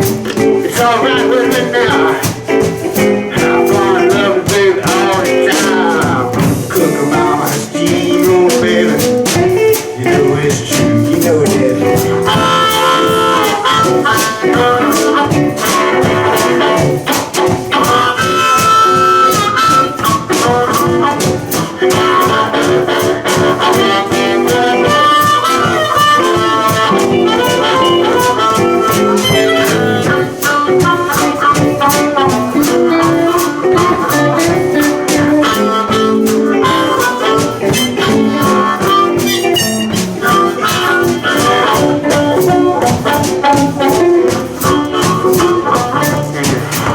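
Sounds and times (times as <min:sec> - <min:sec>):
blues band playing: 0:00.0 - 0:46.9
blues harmonica: 0:00.0 - 0:46.9.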